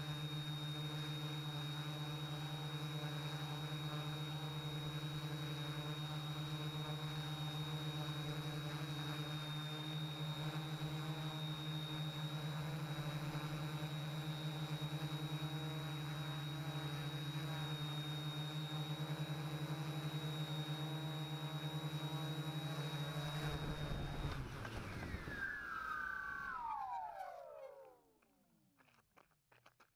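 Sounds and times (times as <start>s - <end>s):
quadcopter motors humming: 0.0s - 28.2s.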